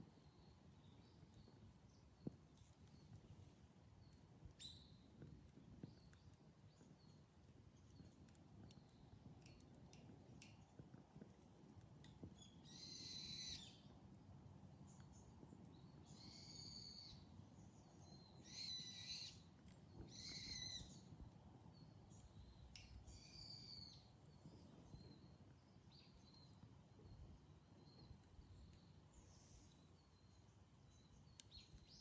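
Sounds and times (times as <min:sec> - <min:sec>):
faint campfire crackles: 0:00.0 - 0:32.0.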